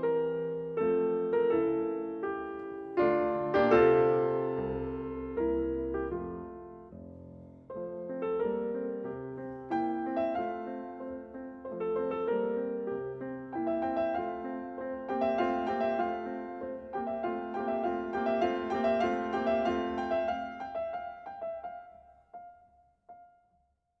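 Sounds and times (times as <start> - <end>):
piano music: 0.0 - 23.3.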